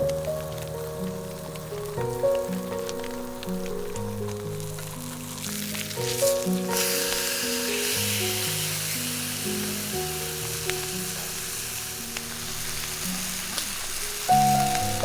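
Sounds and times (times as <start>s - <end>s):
background music of held notes: 0.0s - 15.0s
food sizzling in a hot pan: 0.3s - 15.0s.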